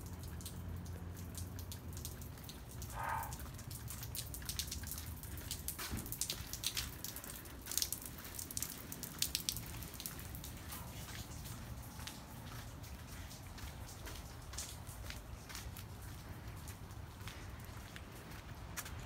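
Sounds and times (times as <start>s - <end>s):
rain falling: 0.0s - 19.0s
raindrop hits and drips: 0.0s - 19.0s.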